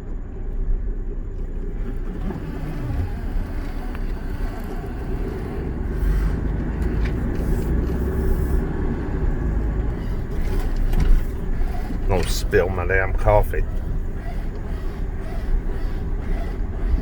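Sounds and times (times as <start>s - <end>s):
engine and road noise in cab: 0.0s - 17.0s.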